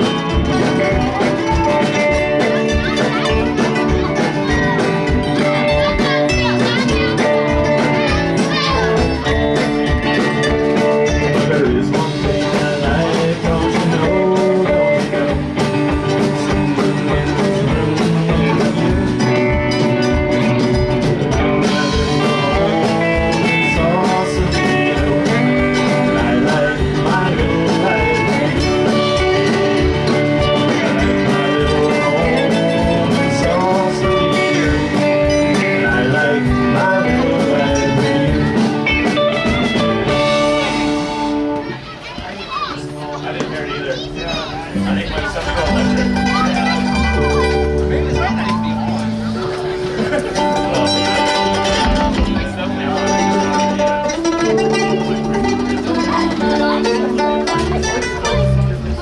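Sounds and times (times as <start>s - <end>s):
live blues-rock band: 0.0s - 59.0s.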